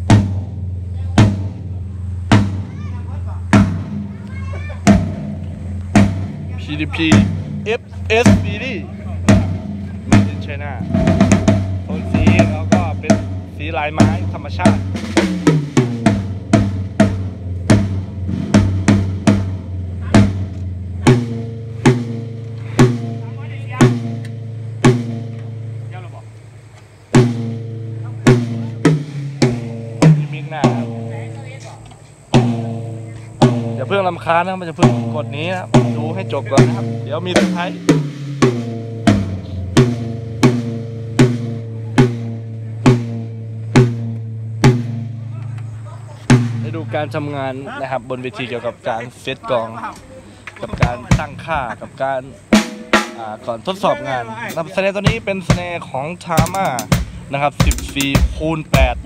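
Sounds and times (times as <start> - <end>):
drum kit played: 0.0 - 26.4, 27.1 - 31.6, 32.2 - 45.4, 46.2 - 47.6, 50.6 - 59.0
low tom and kick ringing: 0.0 - 31.7, 32.3 - 48.1, 50.6 - 59.0.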